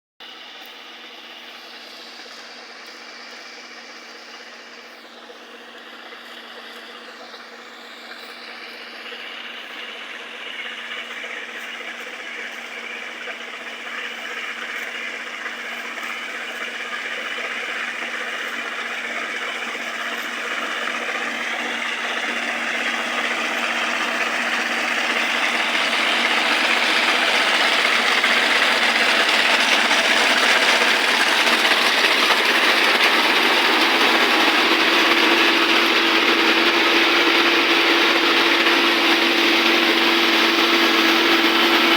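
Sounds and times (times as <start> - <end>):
combine harvester running: 0.4 - 41.9.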